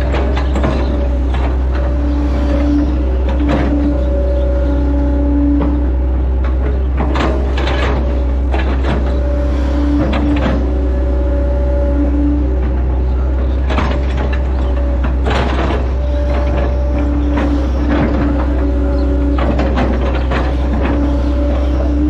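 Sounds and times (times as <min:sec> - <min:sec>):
diesel engine droning: 0:00.0 - 0:22.0
excavator bucket clanking and scraping: 0:00.0 - 0:22.0
hydraulic whine: 0:00.0 - 0:22.0.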